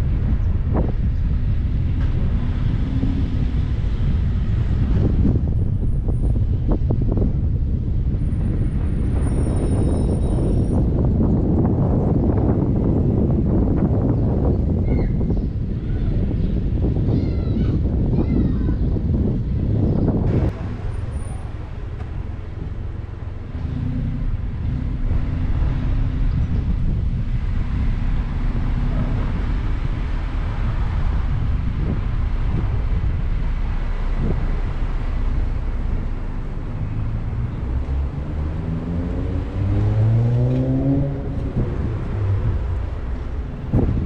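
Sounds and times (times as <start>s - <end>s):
road and wind noise: 0.0s - 44.0s.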